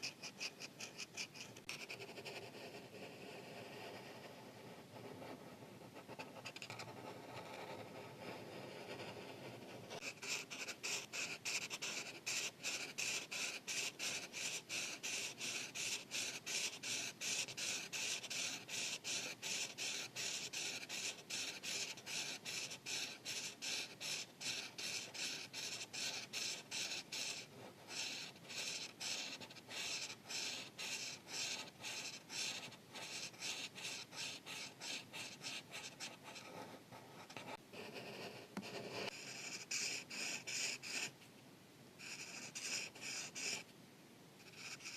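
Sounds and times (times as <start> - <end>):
marker rubbing on paper: 0.0 - 4.3, 5.0 - 41.1, 42.0 - 43.6, 44.4 - 44.9.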